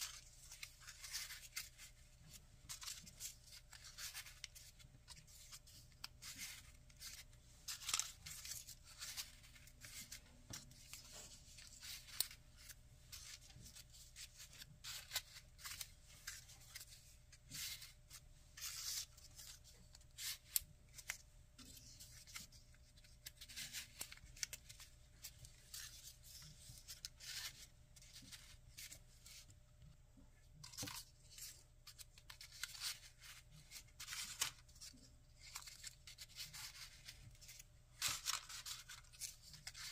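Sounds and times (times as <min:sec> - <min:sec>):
paper rustling and crinkling: 0:00.0 - 0:29.9, 0:30.6 - 0:39.9.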